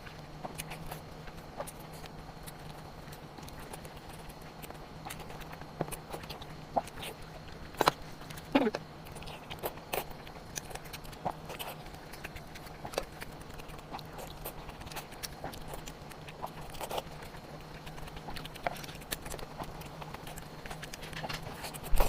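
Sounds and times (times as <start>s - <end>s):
low steady hum: 0.0s - 22.0s
wet chewing mouth sounds: 0.0s - 22.0s.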